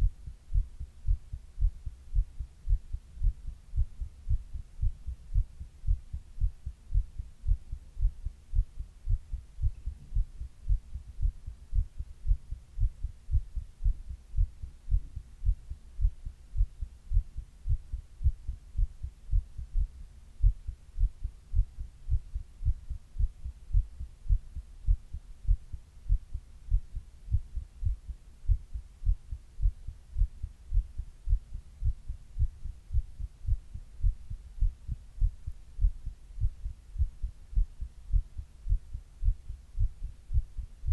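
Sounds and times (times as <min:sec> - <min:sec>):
heartbeat thumps: 0:00.0 - 0:40.9.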